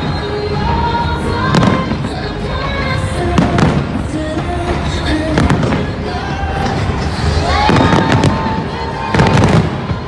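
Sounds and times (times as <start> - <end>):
fireworks bursting bangs: 0.0 - 10.0
music soundtrack: 0.0 - 10.0.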